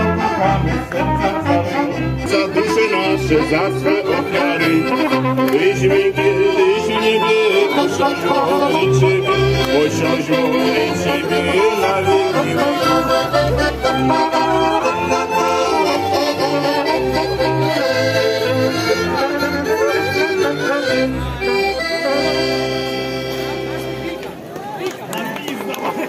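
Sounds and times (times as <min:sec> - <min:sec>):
double bass line: 0:00.0 - 0:24.3
live band music: 0:00.0 - 0:24.4.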